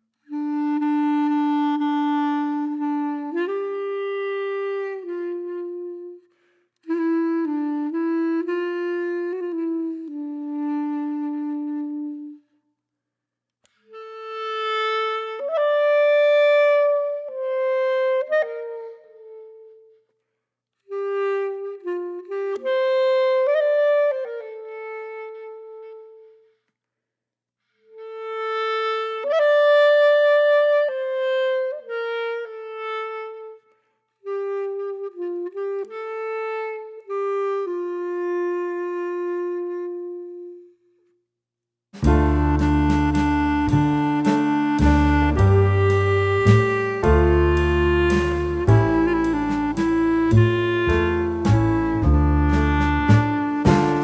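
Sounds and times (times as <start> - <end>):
solo woodwind melody: 0.2 - 12.5, 13.8 - 20.0, 20.9 - 26.5, 28.0 - 40.9, 42.0 - 54.0.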